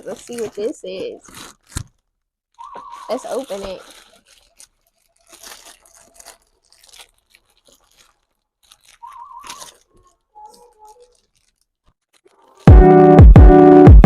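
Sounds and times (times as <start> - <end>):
package wrapping crinkling: 0.0 - 12.7.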